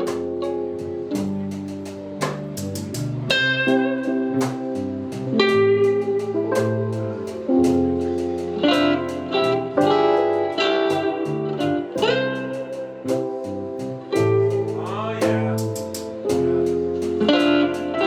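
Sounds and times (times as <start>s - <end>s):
drum hits: 0.0s - 0.5s, 1.1s - 18.0s
bass line: 0.0s - 18.0s
plucked guitar notes: 0.0s - 18.0s.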